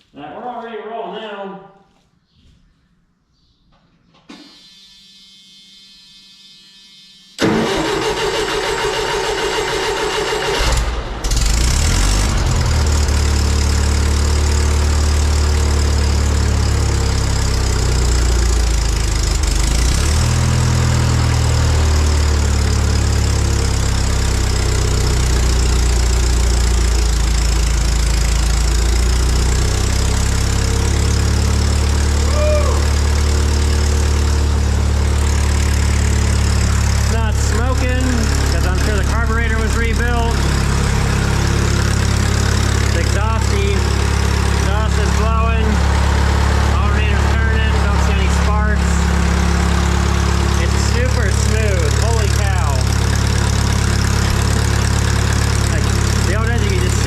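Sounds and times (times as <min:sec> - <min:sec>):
engine starting and running: 0:07.4 - 0:57.0.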